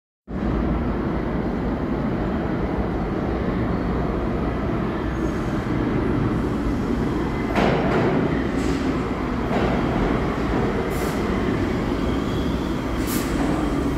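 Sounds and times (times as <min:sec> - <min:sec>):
subway train rumbling in tunnel: 0:00.3 - 0:13.9.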